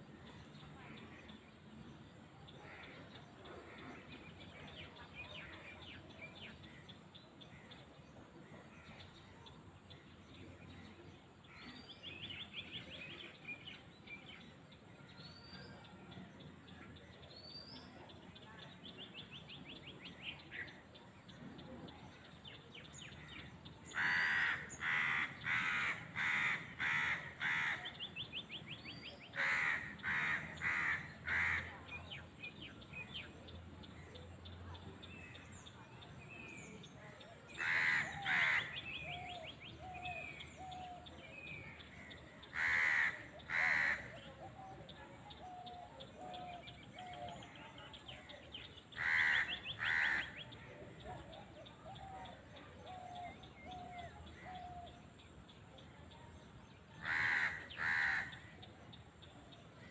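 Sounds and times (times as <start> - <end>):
small birds chirping and trilling: 0.1 - 59.9.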